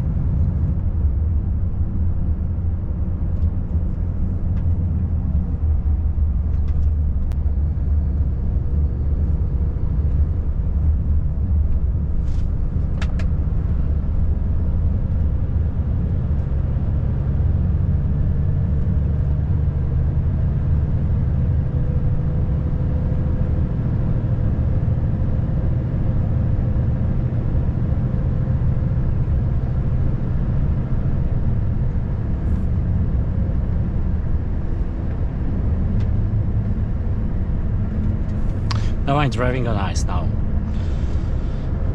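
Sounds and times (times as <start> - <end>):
diesel truck engine running: 0.0 - 41.9
low road rumble: 0.0 - 41.9.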